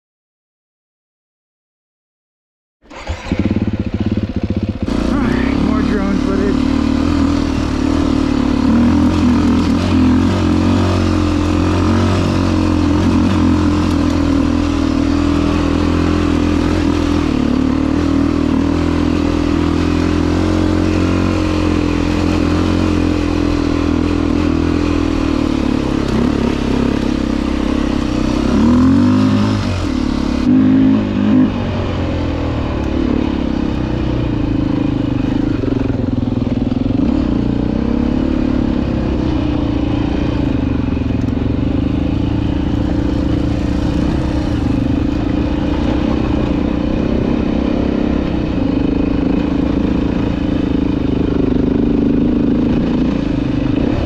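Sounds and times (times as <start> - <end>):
dirt bike engine running: 2.9 - 54.0.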